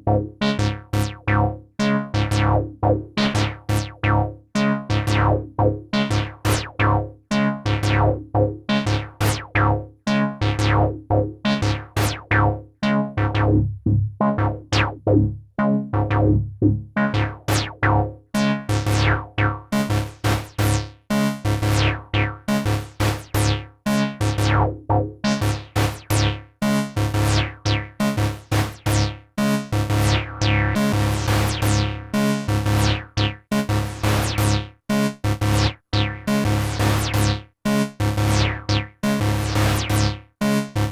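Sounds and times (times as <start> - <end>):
synthesizer bass notes: 0.0 - 1.6, 2.2 - 4.3, 4.9 - 7.1, 7.7 - 9.8, 10.4 - 26.4, 27.0 - 40.9.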